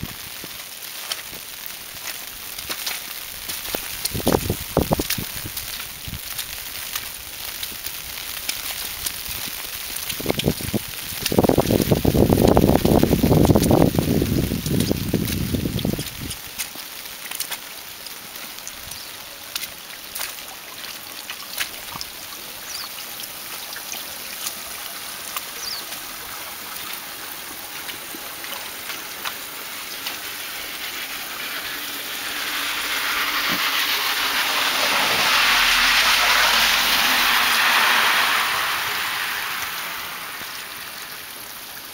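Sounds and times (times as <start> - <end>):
hiss of wet snow and slush: 0.0 - 41.9
rushing splashing hiss: 0.0 - 41.9.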